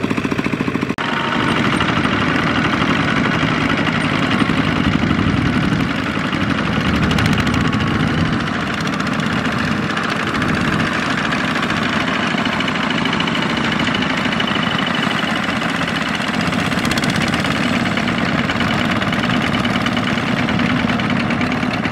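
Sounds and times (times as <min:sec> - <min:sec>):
diesel engine chugging: 0:00.0 - 0:21.9.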